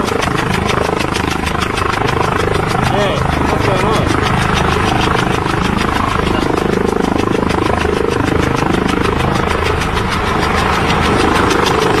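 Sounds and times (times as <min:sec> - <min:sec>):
helicopter engine running: 0:00.0 - 0:12.0
rotor blades chopping: 0:00.0 - 0:12.0.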